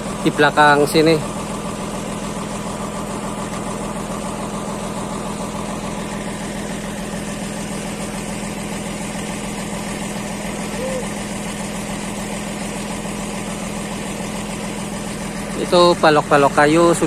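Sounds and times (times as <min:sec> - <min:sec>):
winch engine idling: 0:00.0 - 0:17.0.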